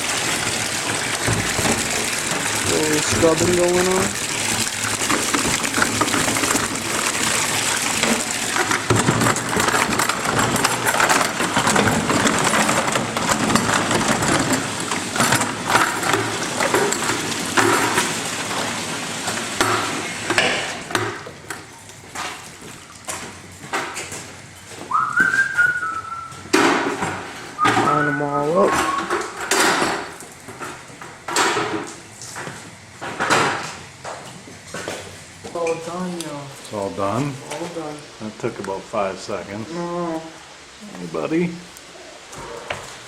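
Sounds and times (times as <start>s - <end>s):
buckets knocking and clattering: 0.0s - 35.7s
scrubbing buckets: 0.0s - 43.0s
water noise: 0.0s - 43.0s.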